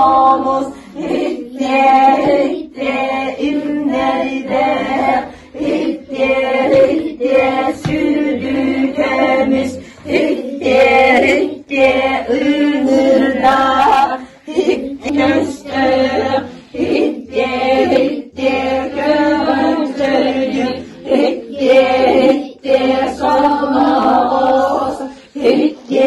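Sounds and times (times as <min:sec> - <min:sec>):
children and women singing: 0:00.0 - 0:26.0.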